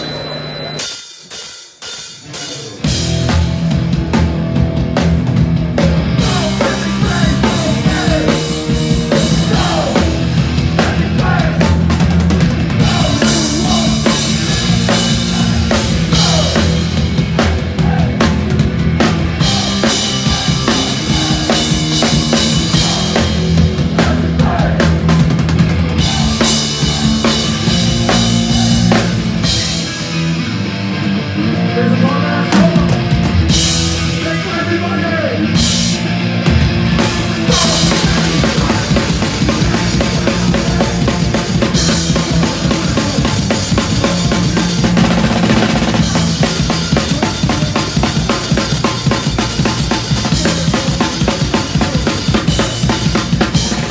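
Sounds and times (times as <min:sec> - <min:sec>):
punk band playing: 0:00.0 - 0:53.9
pounding drum kit: 0:00.8 - 0:53.9.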